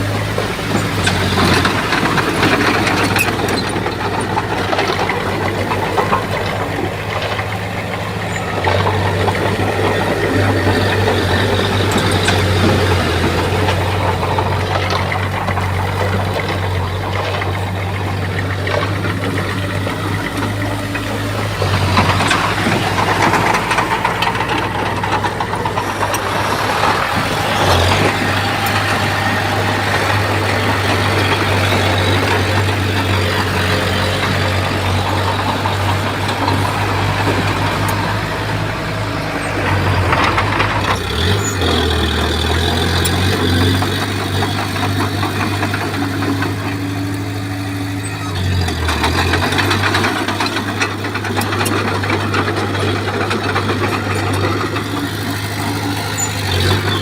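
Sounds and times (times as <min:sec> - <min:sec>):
bulldozer diesel engine droning: 0:00.0 - 0:57.0
heavy clattering of machine working: 0:00.0 - 0:57.0.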